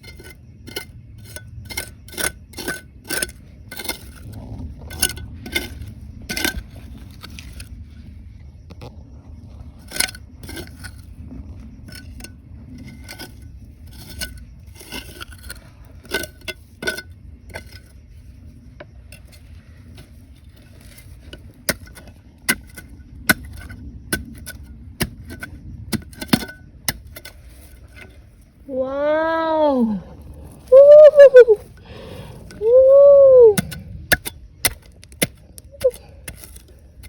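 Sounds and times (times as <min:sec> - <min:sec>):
rocks and gravel knocking and scraping: 0:00.0 - 0:28.6, 0:30.2 - 0:37.0
steady low rumble: 0:00.4 - 0:16.1, 0:16.7 - 0:30.8.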